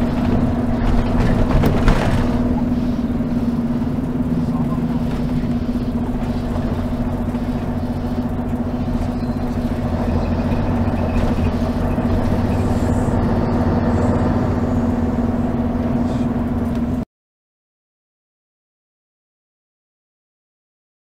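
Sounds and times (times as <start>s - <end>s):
diesel bus engine drone: 0.0s - 17.1s.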